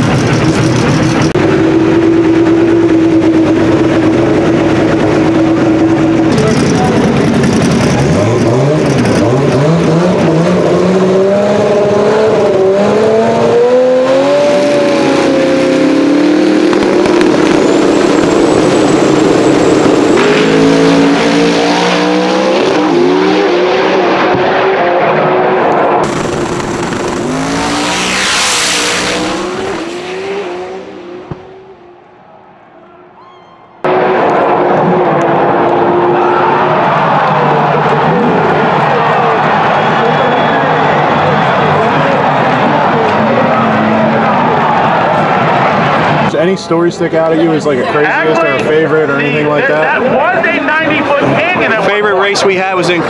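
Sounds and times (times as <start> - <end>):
cars accelerating away: 0.0 - 32.2, 33.8 - 46.4
drag racing cars revving: 0.0 - 32.2, 33.8 - 53.0.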